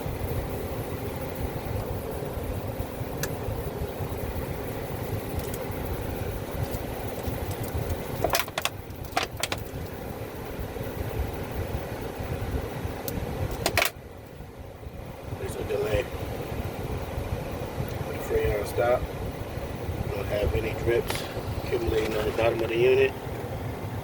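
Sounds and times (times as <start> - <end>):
air conditioner humming: 0.0 - 24.0.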